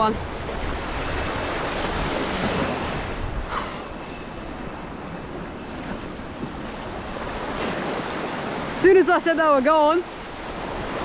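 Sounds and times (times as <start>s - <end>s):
wind rumble on microphone: 0.0s - 8.9s
sea water wash: 0.0s - 11.0s.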